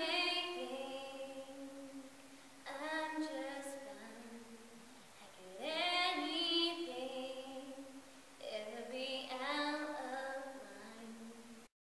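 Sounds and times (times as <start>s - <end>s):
woman singing a cappella: 0.0s - 11.7s.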